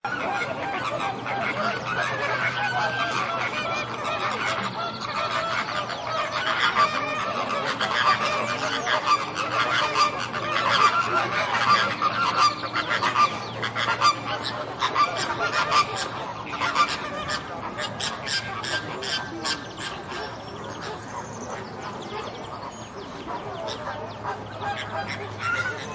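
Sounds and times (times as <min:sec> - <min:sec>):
flamingos honking: 0:00.1 - 0:25.9.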